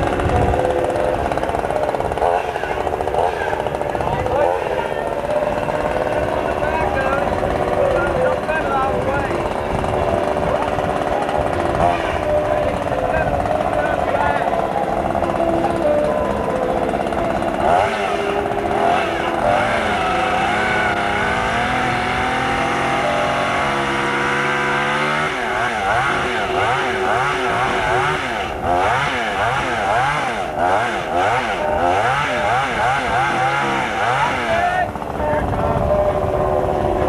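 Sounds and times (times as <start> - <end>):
chainsaw engine revving: 0.0 - 37.0.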